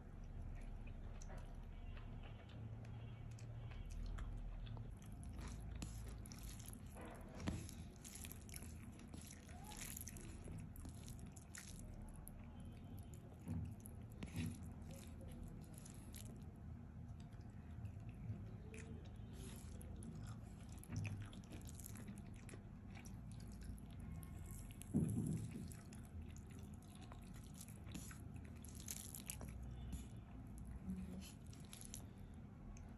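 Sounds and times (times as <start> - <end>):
faint chewing: 0.0 - 32.9
fingers squishing rice: 2.6 - 32.9.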